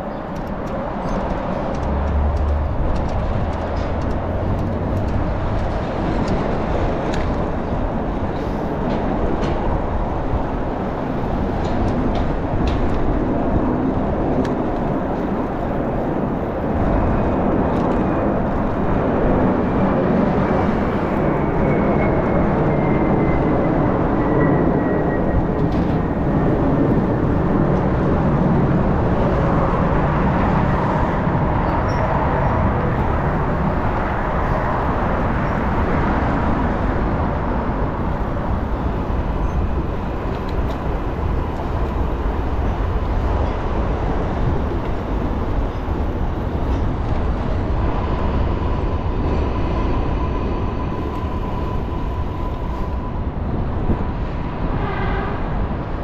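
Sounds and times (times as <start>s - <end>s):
city traffic: 0.0s - 56.0s
wind rushing: 0.8s - 56.0s.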